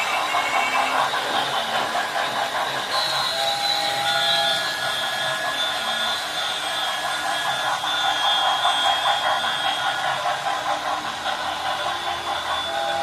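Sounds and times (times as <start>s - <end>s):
model train rushing hiss: 0.0s - 13.0s.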